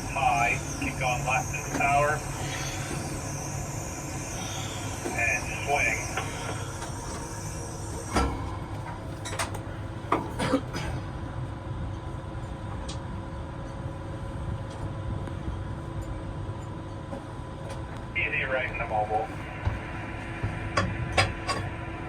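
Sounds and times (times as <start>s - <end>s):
crane drive mechanical hum: 0.0s - 22.0s.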